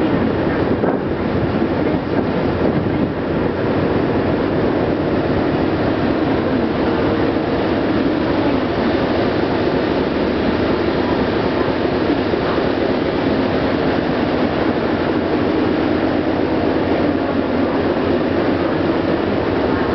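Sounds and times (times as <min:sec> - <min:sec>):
ferry engines rumbling: 0:00.0 - 0:19.9.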